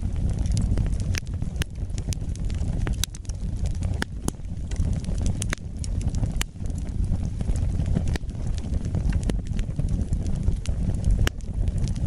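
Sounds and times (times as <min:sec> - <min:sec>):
burning logs popping: 0:00.0 - 0:12.0
wood fire crackling: 0:00.0 - 0:12.0.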